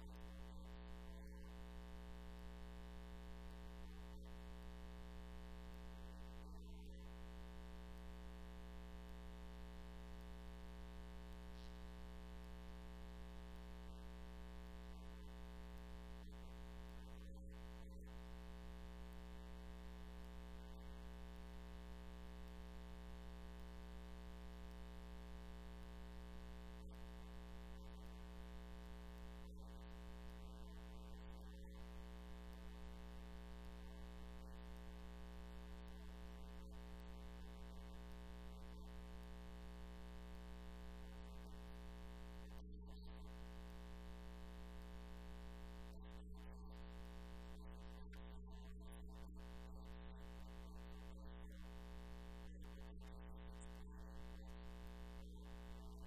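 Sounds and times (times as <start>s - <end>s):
electrical mains hum: 0.0s - 56.0s.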